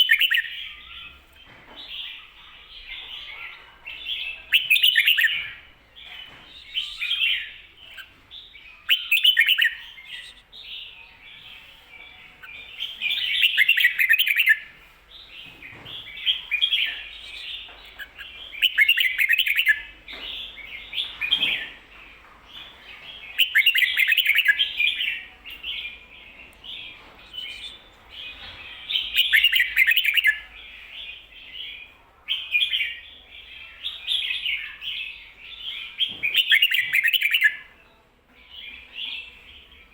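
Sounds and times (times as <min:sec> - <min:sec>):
bird singing chattering phrases: 0:00.0 - 0:37.7.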